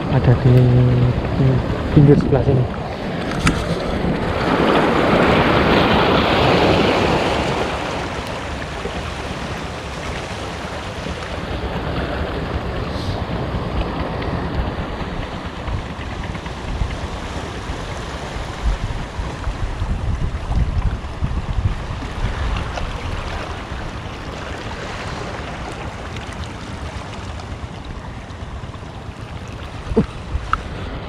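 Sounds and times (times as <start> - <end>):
waves washing against rocks: 0.0 - 31.0
wind rumbling on microphone: 0.0 - 31.0.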